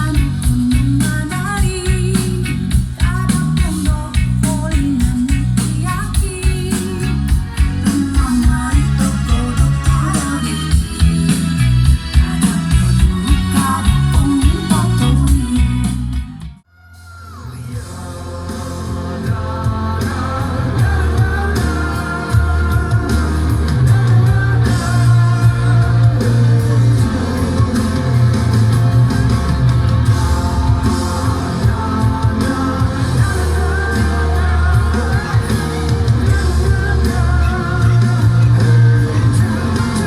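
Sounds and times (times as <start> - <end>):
rock song with singing: 0.0 - 40.0.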